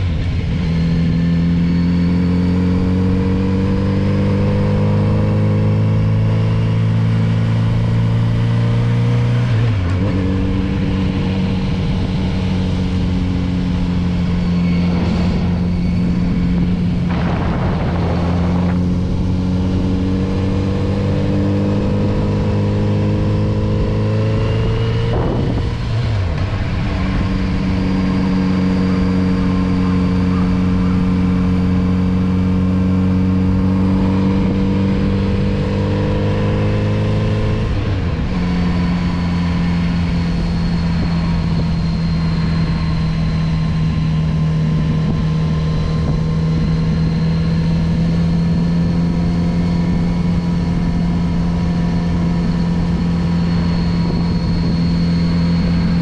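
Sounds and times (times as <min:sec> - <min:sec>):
motorcycle engine revving: 0:00.0 - 0:56.0
rush of noise: 0:09.5 - 0:31.6, 0:33.2 - 0:56.0.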